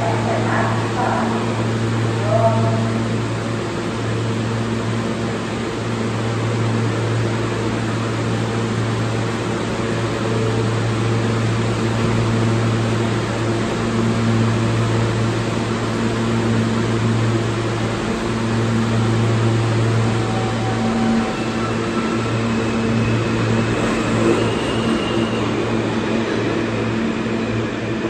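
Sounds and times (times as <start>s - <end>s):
subway car electrical hum: 0.0s - 28.0s.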